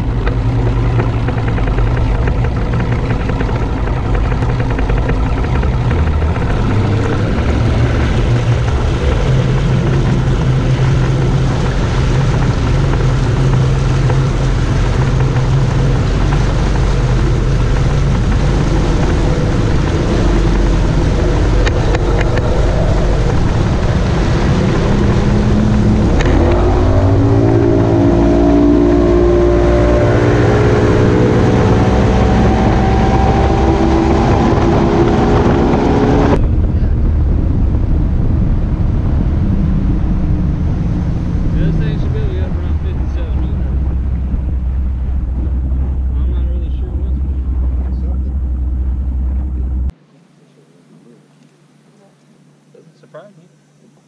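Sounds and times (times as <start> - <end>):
wind and water rushing: 0.0 - 50.0
outboard motor running: 0.0 - 50.2.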